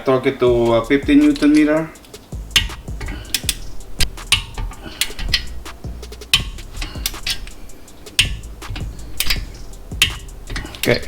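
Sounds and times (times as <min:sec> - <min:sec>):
ratchet wrench clicking: 0:00.5 - 0:11.0.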